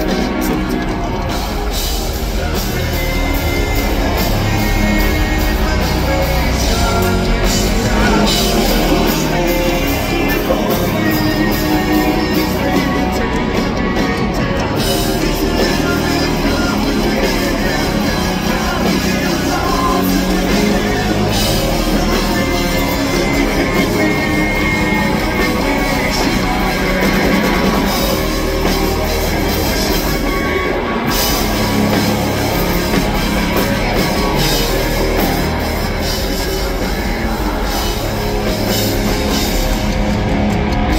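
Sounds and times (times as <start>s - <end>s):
man singing lead vocal: 0.0s - 40.2s
live hard rock band: 0.0s - 40.9s.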